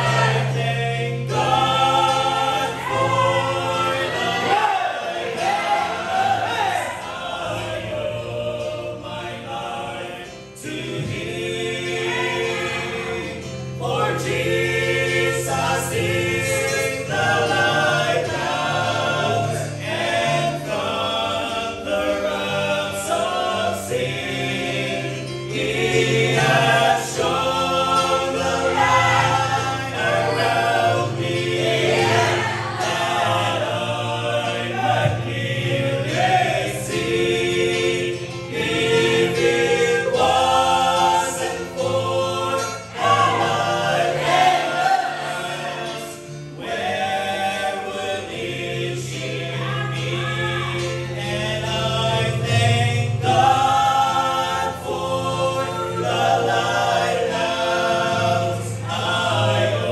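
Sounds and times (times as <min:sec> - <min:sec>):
male vocal group singing in harmony: 0:00.0 - 0:59.9.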